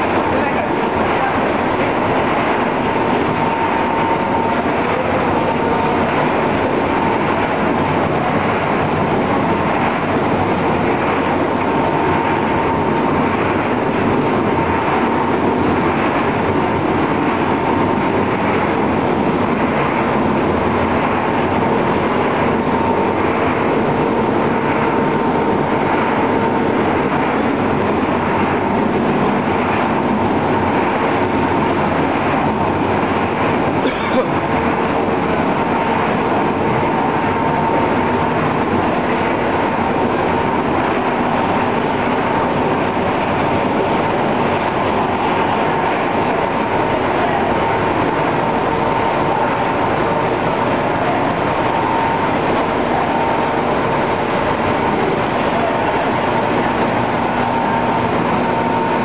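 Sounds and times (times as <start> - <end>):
processing machinery running: 0.0 - 59.0
thin steady whine: 0.0 - 59.0.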